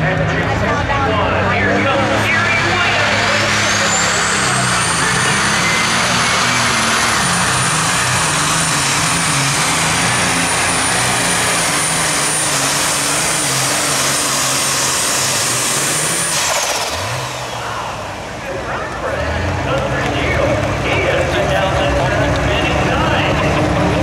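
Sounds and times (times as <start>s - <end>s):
high turbo whine: 0.0s - 24.0s
tractor diesel engine at full throttle: 0.0s - 24.0s.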